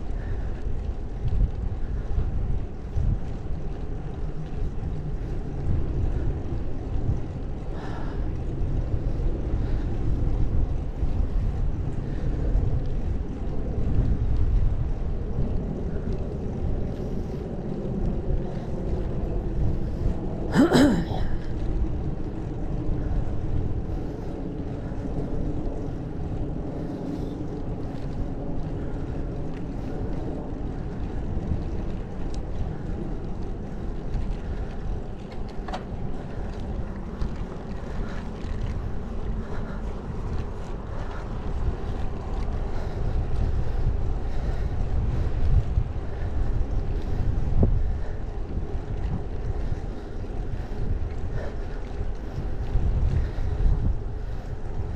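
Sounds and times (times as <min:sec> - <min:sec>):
wind on microphone: 0:00.0 - 0:54.9.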